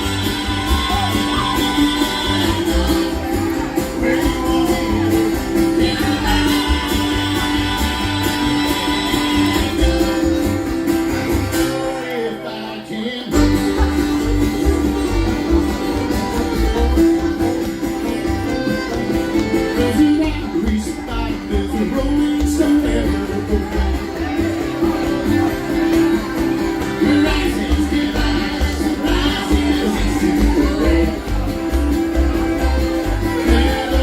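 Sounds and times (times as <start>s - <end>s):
acoustic guitar: 0.0s - 34.0s
folk bluegrass band playing: 0.0s - 34.0s.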